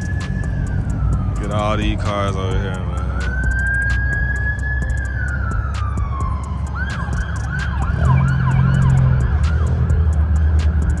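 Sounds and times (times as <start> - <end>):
police siren wailing and yelping: 0.0 - 11.0.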